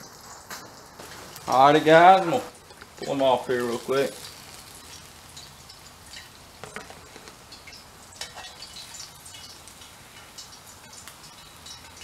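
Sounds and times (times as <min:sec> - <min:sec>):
fish deep-frying sizzle: 0:00.0 - 0:12.0.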